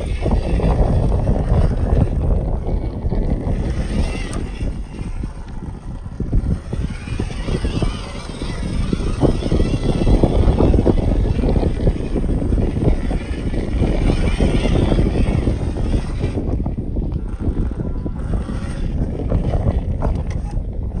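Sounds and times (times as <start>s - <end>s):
electric motor and gearbox whining: 0.0s - 21.0s
wind buffeting microphone: 0.0s - 21.0s.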